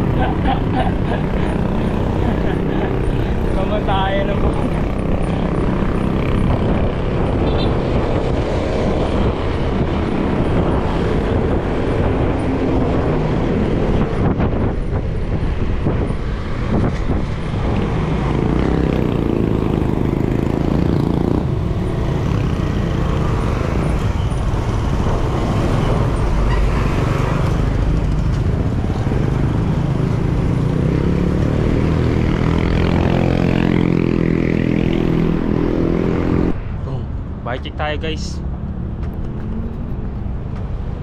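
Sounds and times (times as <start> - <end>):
low rumbling road noise: 0.0 - 41.0.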